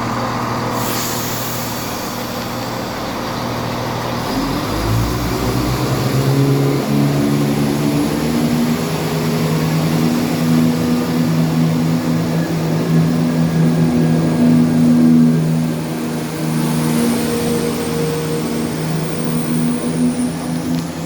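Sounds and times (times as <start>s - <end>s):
train diesel engines droning: 0.0s - 21.0s.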